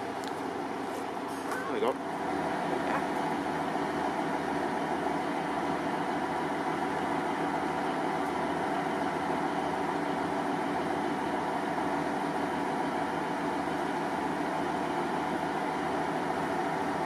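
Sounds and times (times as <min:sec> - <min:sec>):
train diesel engines idling: 0:00.0 - 0:17.0.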